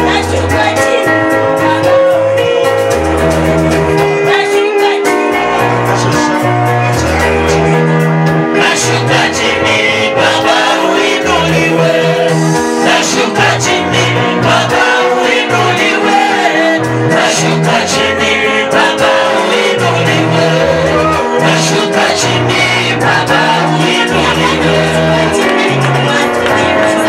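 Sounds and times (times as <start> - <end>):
worship band with singing: 4.0 - 27.0.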